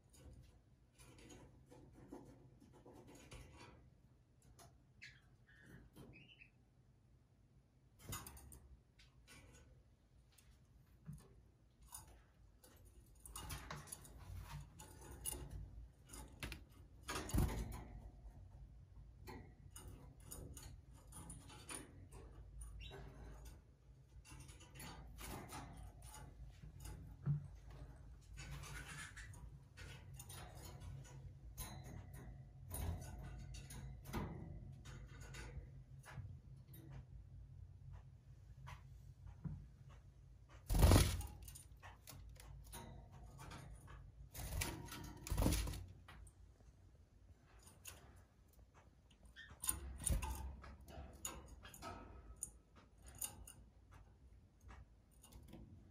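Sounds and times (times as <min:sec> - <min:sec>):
wire birdcages clattering: 0:00.0 - 0:06.4, 0:07.9 - 0:38.0, 0:40.5 - 0:46.4, 0:47.2 - 0:55.9
light clicks and ticks: 0:08.0 - 0:55.9.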